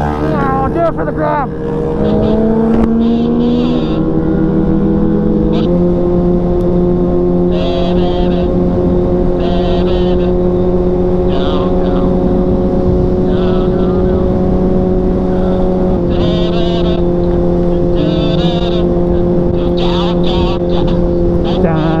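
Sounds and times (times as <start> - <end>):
motorcycle engine running: 0.0 - 22.0
wind rushing noise: 0.0 - 22.0.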